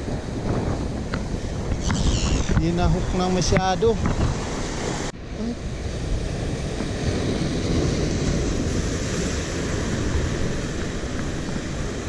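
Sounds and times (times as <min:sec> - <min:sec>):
surf washing against rocks: 0:00.0 - 0:12.0
wind on microphone: 0:00.0 - 0:12.0.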